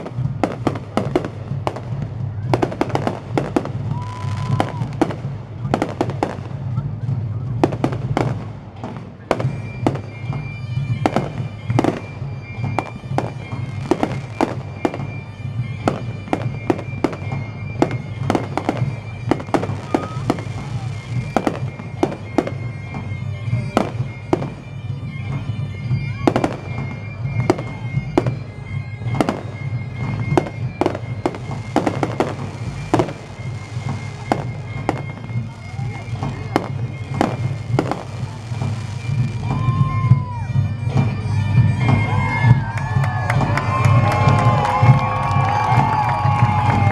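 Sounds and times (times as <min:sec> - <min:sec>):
fireworks bursts and bangs: 0:00.0 - 0:46.9.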